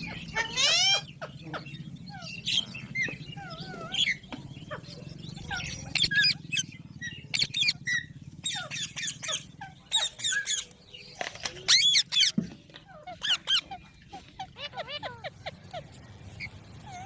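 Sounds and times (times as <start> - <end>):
parakeets chirping and squeaking: 0.0 - 17.0
steady low hum: 0.0 - 17.0.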